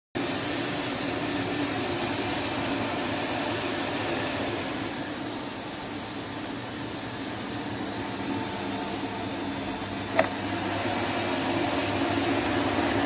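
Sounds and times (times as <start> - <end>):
vacuum cleaner running: 0.2 - 13.0.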